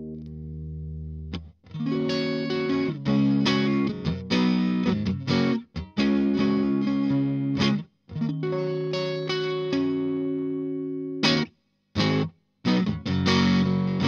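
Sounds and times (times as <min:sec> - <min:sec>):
overdriven electric guitar chords: 0:00.0 - 0:14.0.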